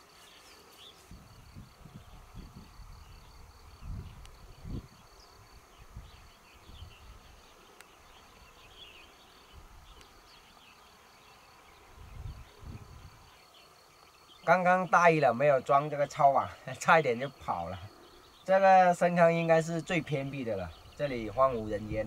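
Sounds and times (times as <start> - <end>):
high insect buzz: 0.0 - 22.0.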